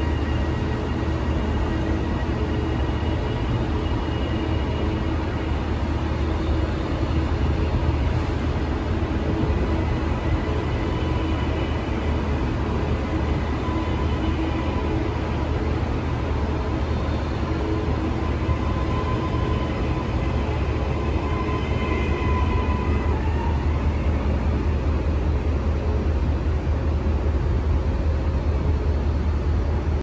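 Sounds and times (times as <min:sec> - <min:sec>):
train wheels low rumble: 0:00.0 - 0:30.0.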